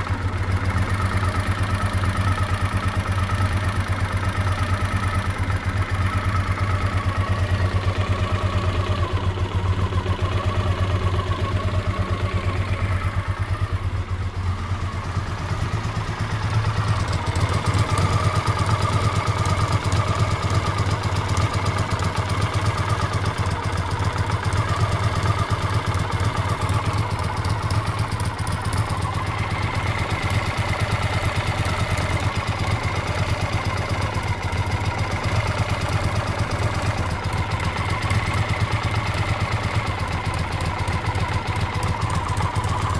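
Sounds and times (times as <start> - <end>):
fast engine clicking: 0.0 - 13.9, 14.6 - 42.9
motorcycle engine idling: 0.0 - 42.9.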